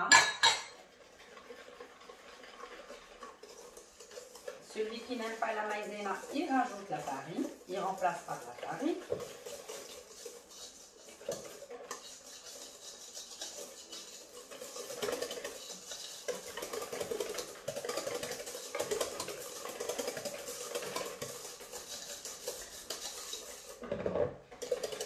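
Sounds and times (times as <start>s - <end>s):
whisk clattering against bowl: 0.0s - 25.0s.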